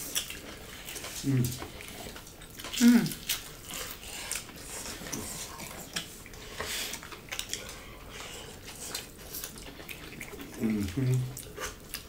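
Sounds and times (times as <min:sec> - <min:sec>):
chewing and mouth noises: 0:00.0 - 0:12.0.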